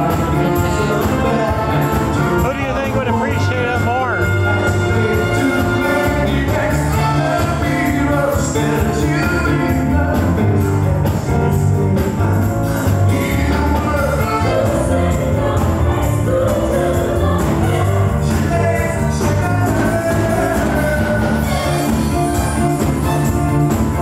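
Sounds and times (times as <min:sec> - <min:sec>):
music with singing and beat: 0:00.0 - 0:24.0.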